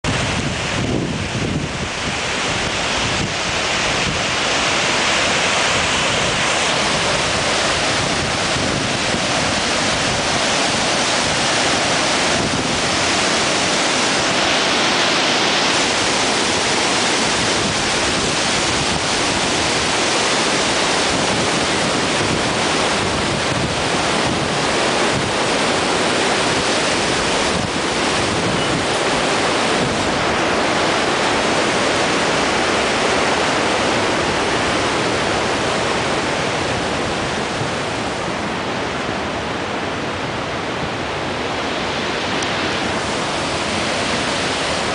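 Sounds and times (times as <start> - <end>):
river rushing over boulders: 0.0 - 44.9.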